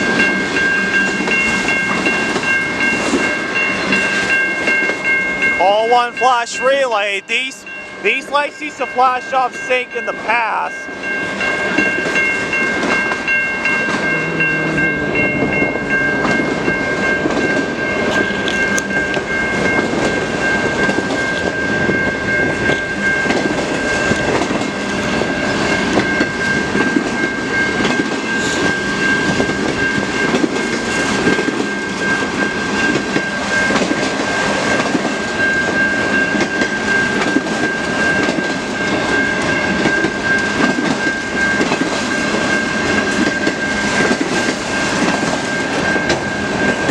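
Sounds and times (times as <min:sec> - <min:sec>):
freight train rumble: 0:00.0 - 0:46.9
steady high tone: 0:00.0 - 0:46.9.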